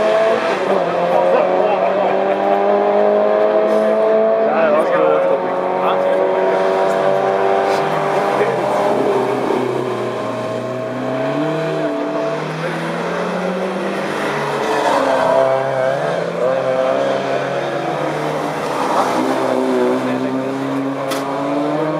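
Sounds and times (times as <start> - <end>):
racing car engines: 0.0 - 21.9.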